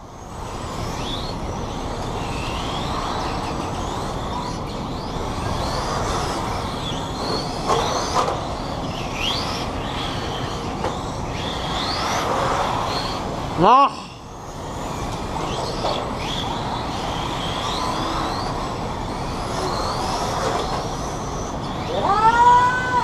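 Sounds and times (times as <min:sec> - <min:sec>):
electric motors whining: 0:00.0 - 0:23.0
steady rush of noise: 0:00.0 - 0:23.0.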